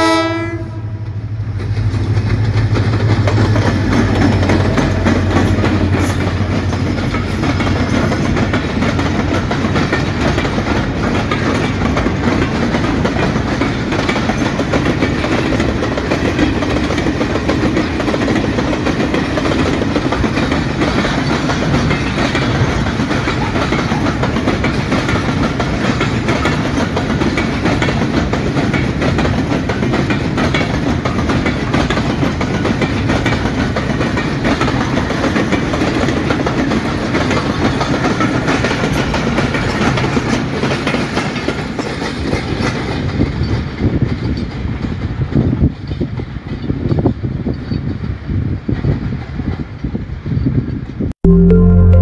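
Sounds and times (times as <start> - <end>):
freight train wheels on rails: 0.0 - 51.1.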